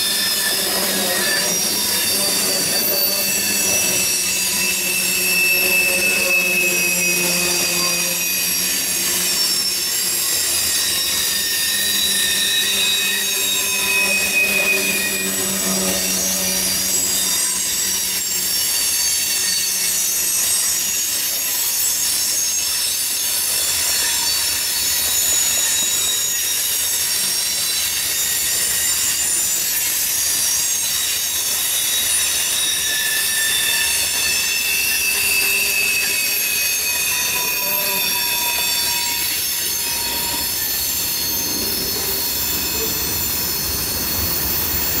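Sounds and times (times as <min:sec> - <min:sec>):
train wheels rumbling: 0:00.0 - 0:21.6, 0:23.4 - 0:45.0
train wheels squealing on rails: 0:00.0 - 0:45.0.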